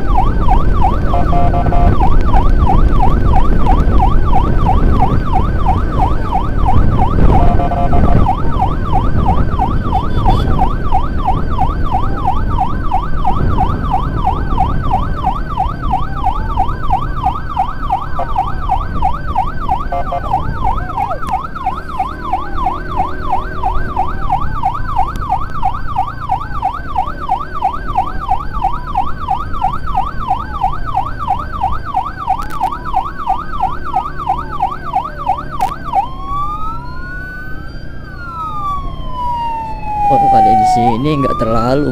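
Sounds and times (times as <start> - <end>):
engine and road rumble: 0.0 - 41.9
fast warbling siren yelp: 0.0 - 41.9
rising and falling siren wail: 0.0 - 41.9.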